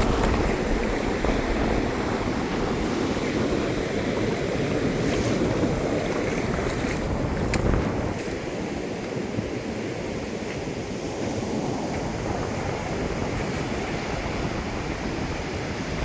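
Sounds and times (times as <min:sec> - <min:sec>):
ocean surf washing onto beach: 0:00.0 - 0:16.0
wind buffeting microphone: 0:00.0 - 0:16.0.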